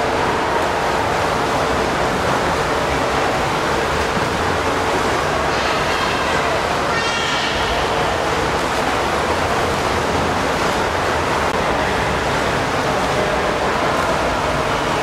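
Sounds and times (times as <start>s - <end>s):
swimmers splashing in a pool: 0.0s - 15.0s.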